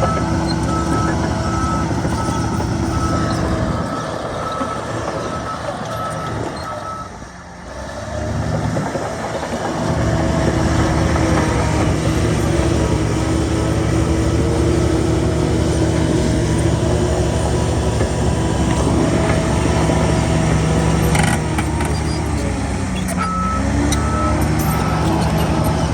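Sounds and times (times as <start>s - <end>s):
bulldozer diesel engine: 0.0s - 25.9s.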